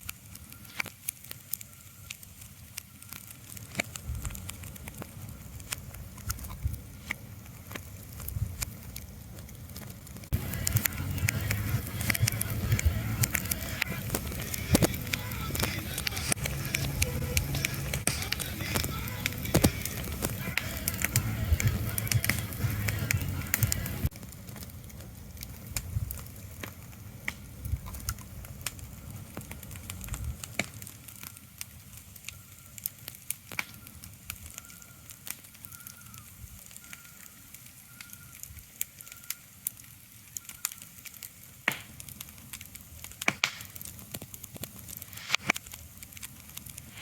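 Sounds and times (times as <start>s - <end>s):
sharp crackles and pops: 0.0s - 47.0s.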